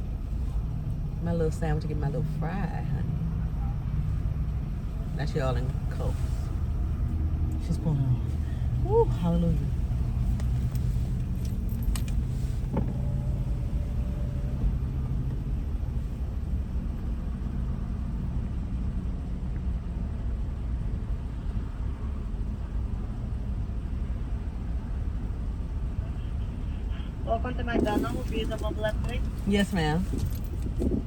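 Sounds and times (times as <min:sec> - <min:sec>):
car engine and cabin rumble: 0:00.0 - 0:31.0
steady low hum: 0:00.0 - 0:31.0.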